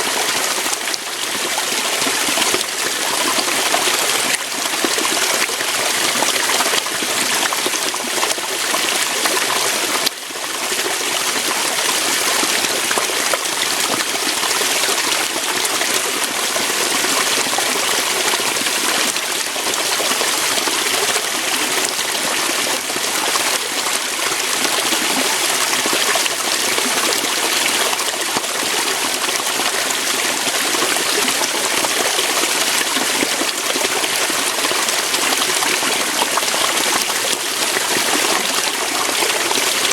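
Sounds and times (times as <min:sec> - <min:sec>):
water splashing over rocks: 0:00.0 - 0:39.9.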